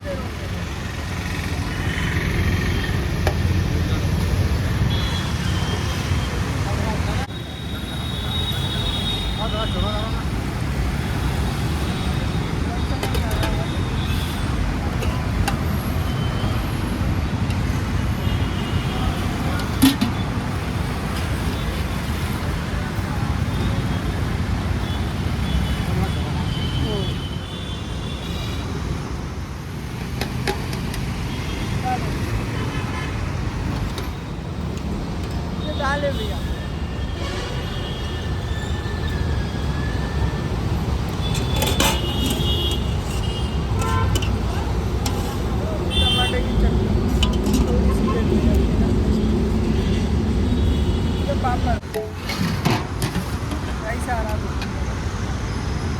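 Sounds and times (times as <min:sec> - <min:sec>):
traffic rumble: 0:00.0 - 0:55.9.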